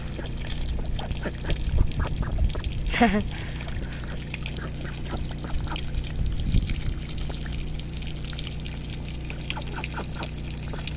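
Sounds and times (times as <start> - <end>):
ducks dabbling in water: 0.0 - 10.9
low steady rumble: 0.0 - 10.9.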